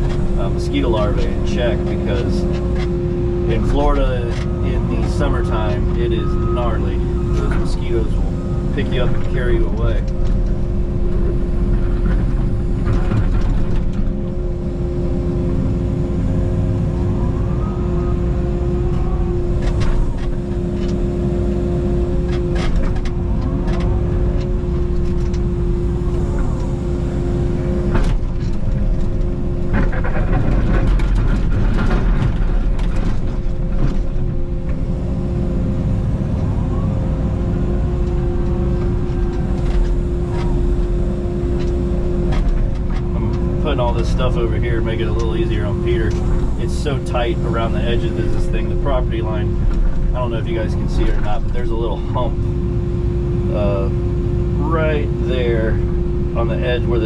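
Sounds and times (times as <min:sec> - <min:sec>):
diesel engine running: 0:00.0 - 0:57.0
hydraulics whining: 0:00.0 - 0:57.0.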